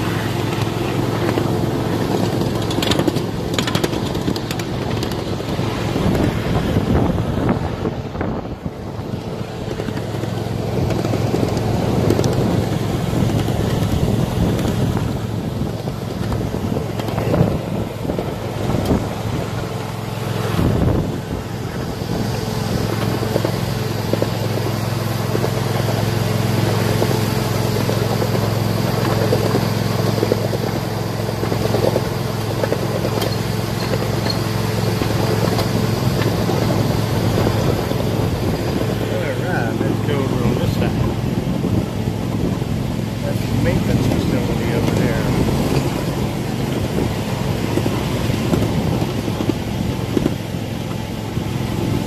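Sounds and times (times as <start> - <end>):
miniature train locomotive humming: 0.0 - 52.0
wheels rumbling on track: 0.0 - 52.0.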